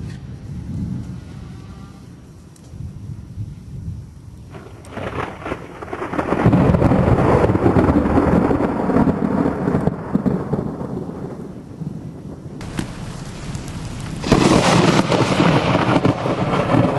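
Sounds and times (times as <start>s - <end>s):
thunder rumbling: 2.8s - 16.9s.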